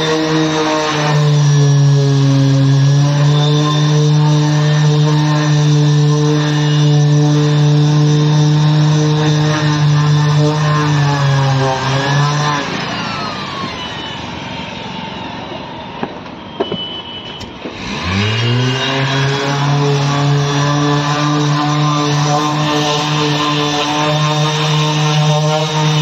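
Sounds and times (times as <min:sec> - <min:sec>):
electric orbital sander: 0:00.0 - 0:16.0, 0:17.6 - 0:26.0.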